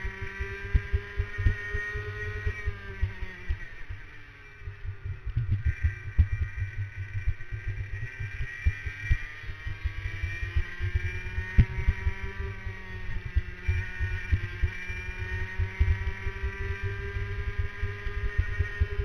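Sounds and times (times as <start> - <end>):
kart engine at full throttle: 0.0 - 19.0.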